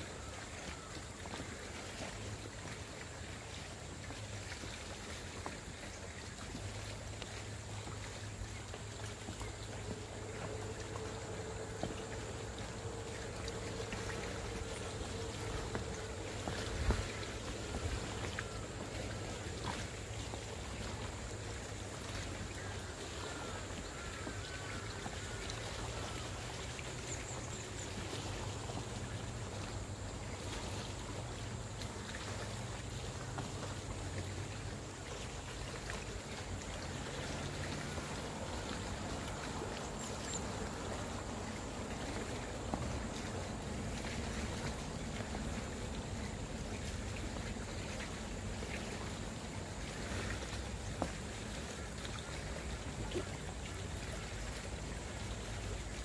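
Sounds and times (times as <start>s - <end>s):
water lapping against boat: 0.0s - 56.0s.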